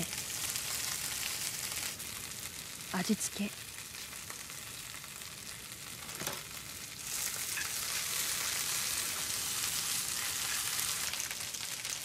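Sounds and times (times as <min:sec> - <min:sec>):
greens sizzling in frying pan: 0:00.0 - 0:12.0.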